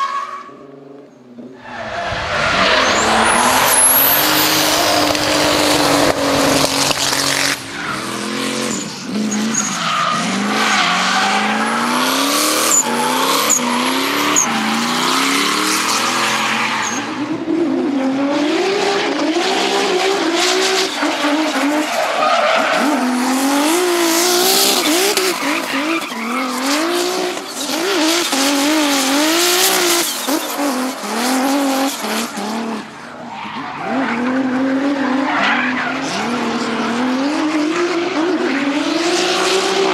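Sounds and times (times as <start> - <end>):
tyre squeal and skidding: 0.0 - 0.8, 1.4 - 17.4, 20.7 - 39.9
car engines revving hard: 0.6 - 39.9.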